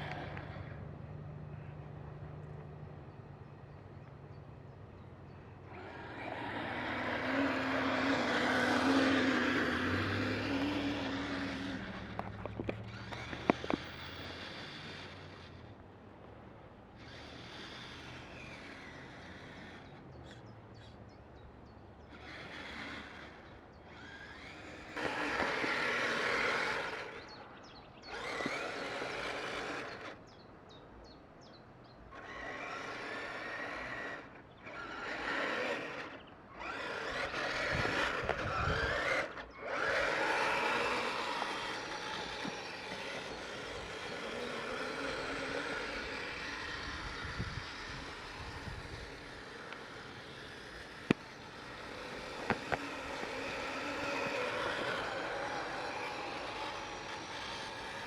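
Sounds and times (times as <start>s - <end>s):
toy tracked vehicle motor whirring: 0.0s - 1.8s, 5.6s - 15.9s, 16.8s - 30.5s, 31.9s - 58.0s.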